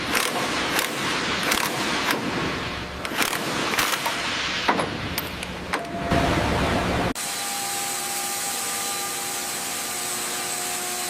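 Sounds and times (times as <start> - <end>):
factory machinery noise: 0.0 - 11.0.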